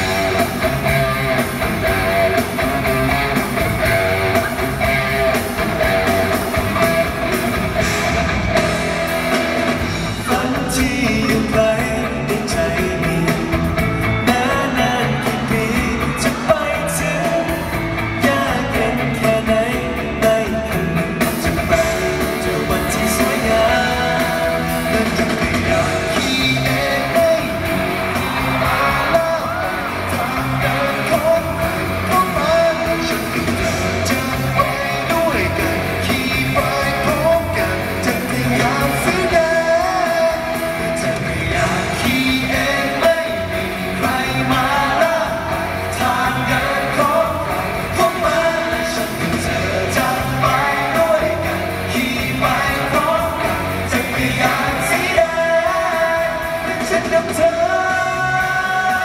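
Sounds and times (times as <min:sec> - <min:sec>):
live pop-rock band: 0:00.0 - 0:59.0
men singing into microphones: 0:10.2 - 0:59.0.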